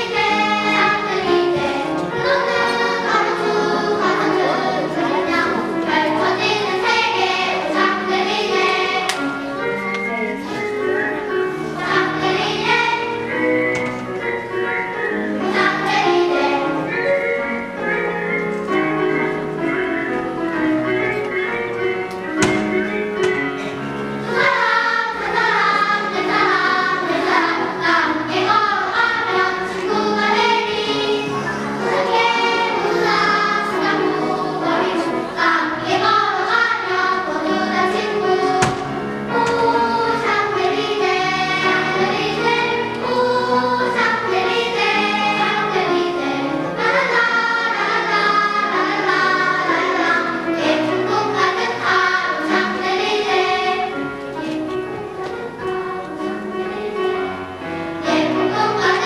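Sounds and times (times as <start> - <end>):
children's choir singing: 0.0 - 59.0
instrumental accompaniment: 0.0 - 59.0.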